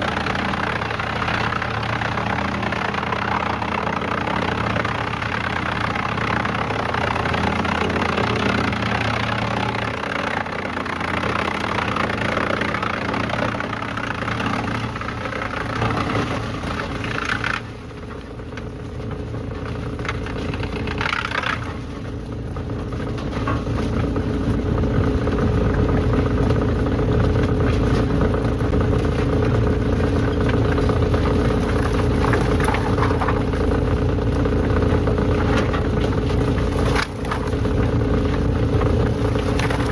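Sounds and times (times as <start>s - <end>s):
heavy machinery engine drone: 0.0s - 39.9s.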